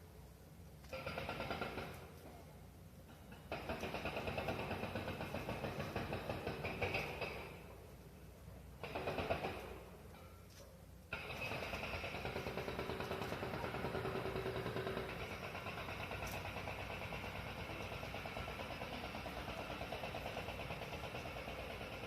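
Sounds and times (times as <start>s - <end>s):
engine running with regular pulse: 0.0s - 22.0s.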